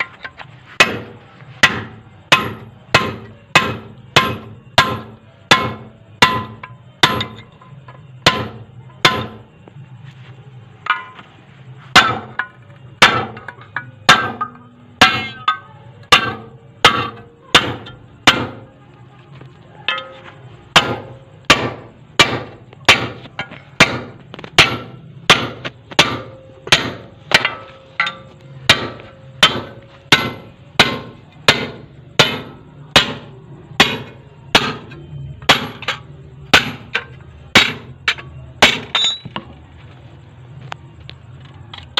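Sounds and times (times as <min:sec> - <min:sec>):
hammer striking steel: 0:00.0 - 0:09.5, 0:10.8 - 0:11.3, 0:11.9 - 0:18.7, 0:19.8 - 0:39.6.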